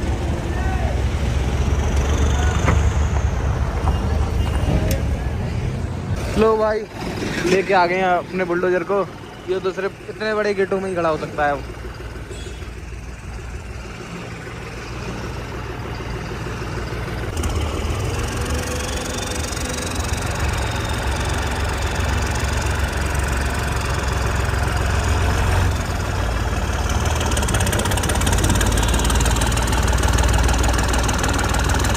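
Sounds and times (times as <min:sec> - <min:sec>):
bulldozer engine running: 0:00.0 - 0:31.9.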